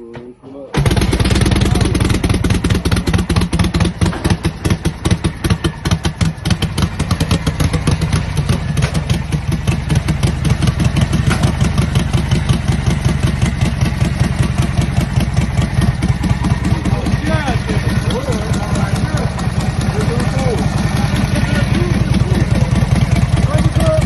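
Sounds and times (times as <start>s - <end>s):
motorcycle engine idling: 0.8s - 24.0s.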